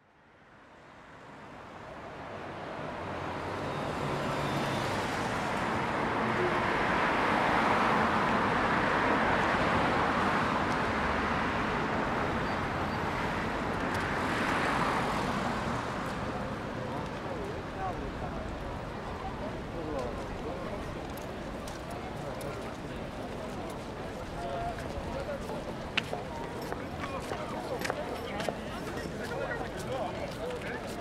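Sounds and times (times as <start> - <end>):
passing cars: 0.9 - 31.0.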